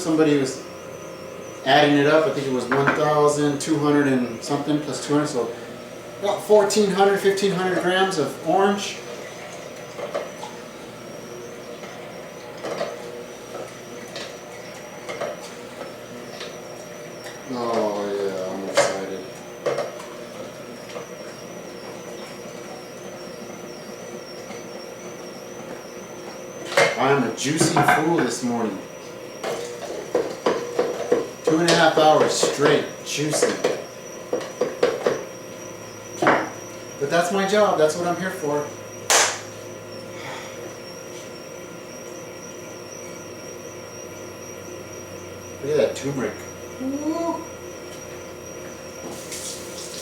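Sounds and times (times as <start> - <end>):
faint wavering high whine: 0.0 - 50.0
juicer motor humming: 0.0 - 50.0.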